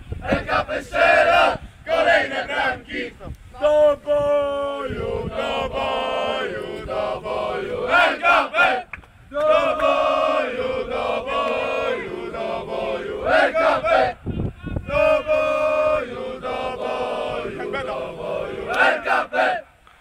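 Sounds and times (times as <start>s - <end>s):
men chanting in unison: 0.2s - 3.3s, 4.5s - 14.2s, 14.8s - 19.7s.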